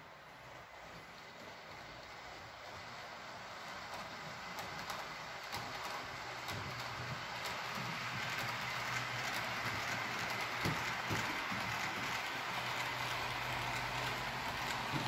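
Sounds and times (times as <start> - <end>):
model train rolling rattle: 0.2 - 15.0.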